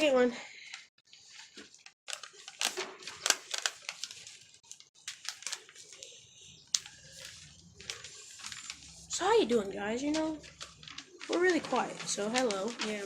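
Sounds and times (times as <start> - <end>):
paper crinkling and rustling: 1.1 - 13.0.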